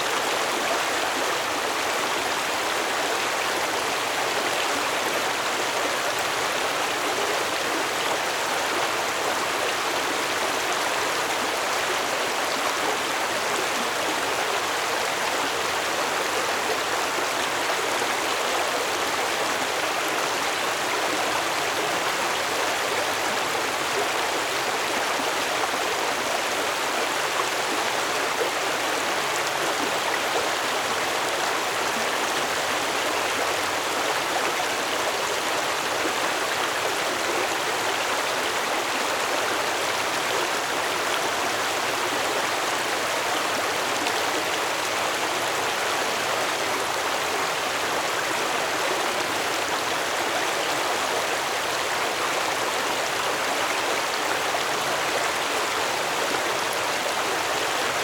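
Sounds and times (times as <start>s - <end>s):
stream rushing and babbling: 0.0s - 58.0s.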